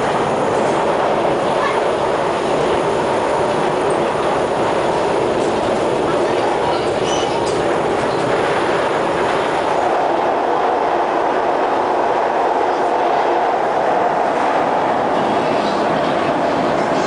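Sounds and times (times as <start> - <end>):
metro train running noise: 0.0 - 17.0.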